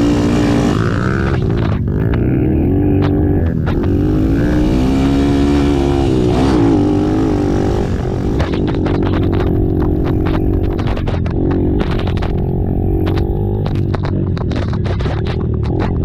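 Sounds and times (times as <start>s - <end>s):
atv engines revving: 0.0s - 16.0s.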